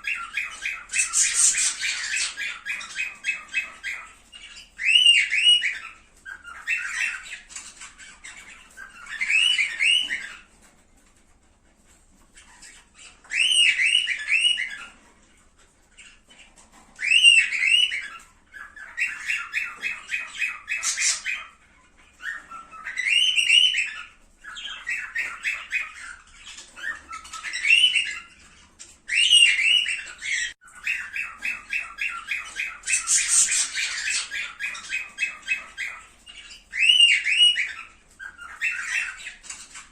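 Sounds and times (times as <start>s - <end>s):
cockatiels whistling: 0.0s - 10.7s, 12.4s - 39.9s
cockatiels chattering: 0.0s - 39.9s.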